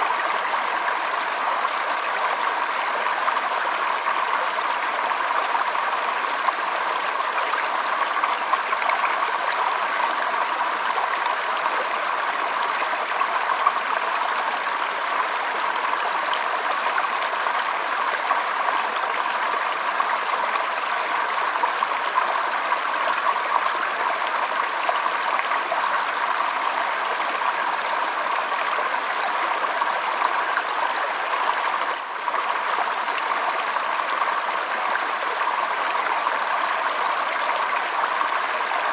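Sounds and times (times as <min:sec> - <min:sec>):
stream water over stones: 0:00.0 - 0:38.9.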